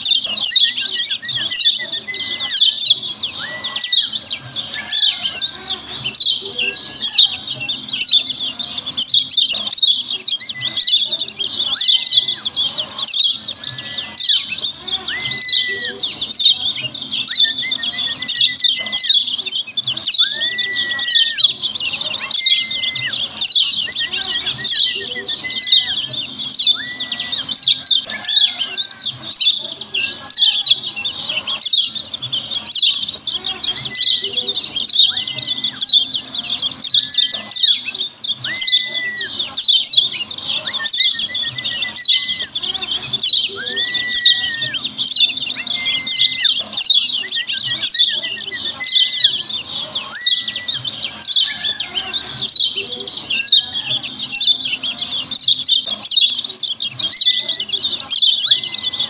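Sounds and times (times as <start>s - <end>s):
bird chattering call: 0.0s - 59.0s.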